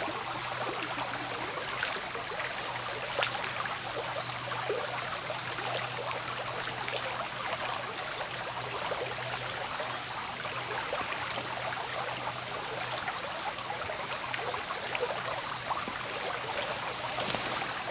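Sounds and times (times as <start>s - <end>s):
brook babbling over stones: 0.0s - 17.9s.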